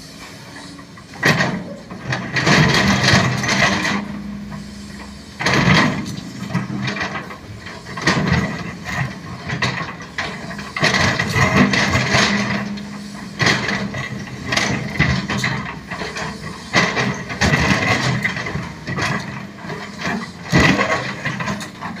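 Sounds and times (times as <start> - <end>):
high mechanical whine: 0.0 - 21.2
excavator diesel engine running: 0.0 - 22.0
metal knocks and clanks: 1.0 - 22.0.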